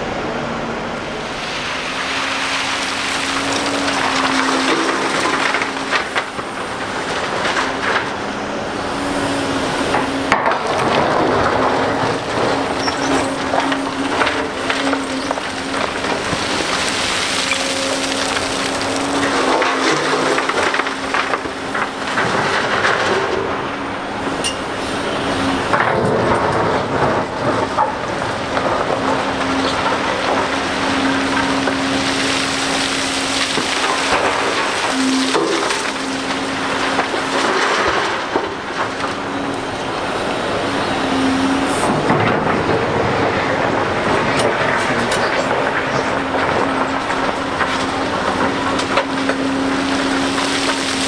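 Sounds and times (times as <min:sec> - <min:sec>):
diesel engines under load: 0:00.0 - 0:51.0
machinery whine: 0:00.0 - 0:51.0
rumble and clatter of machinery: 0:00.0 - 0:51.0.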